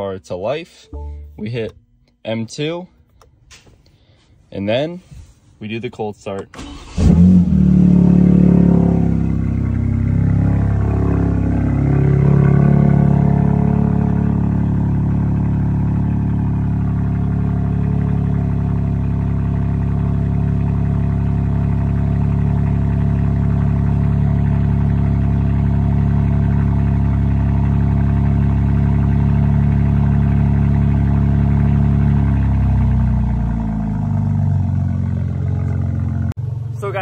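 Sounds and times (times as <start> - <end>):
car engine idling: 6.6 - 37.0.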